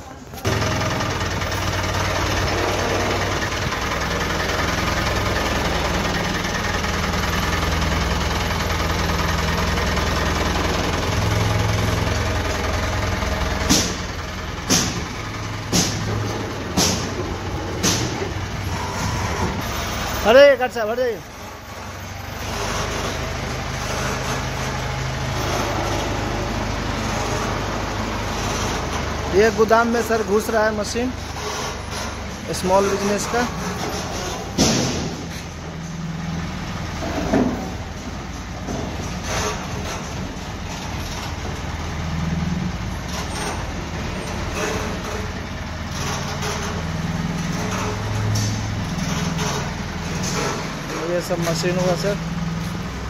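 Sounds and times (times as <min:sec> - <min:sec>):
crane diesel engine running: 0:00.0 - 0:53.0.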